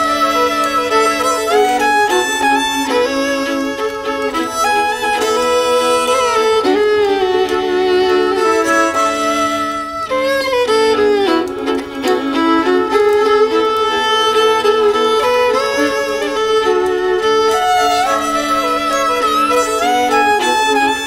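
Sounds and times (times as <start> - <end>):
bowed violin melody: 0.0 - 21.0.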